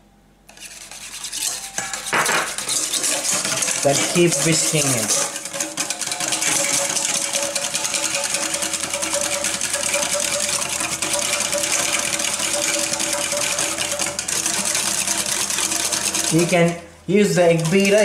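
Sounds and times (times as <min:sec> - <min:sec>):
whisk clattering against metal bowl: 0:00.5 - 0:18.0.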